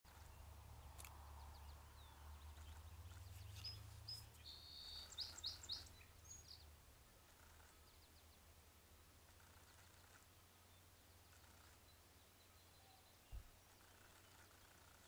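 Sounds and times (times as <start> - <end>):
faint birdsong: 0.1 - 15.0.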